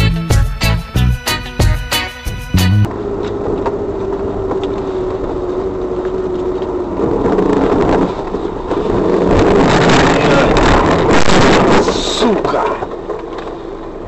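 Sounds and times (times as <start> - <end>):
vehicle rumbling on road: 2.6 - 14.0.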